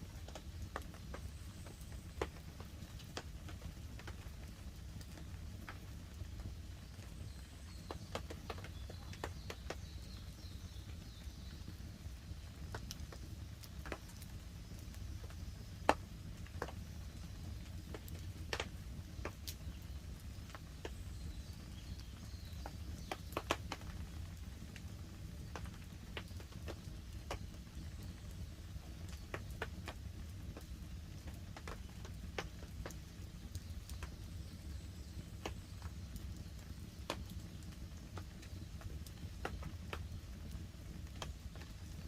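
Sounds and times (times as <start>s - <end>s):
campfire crackling and popping: 0.0s - 42.0s
light rain on a tarp: 0.0s - 42.0s.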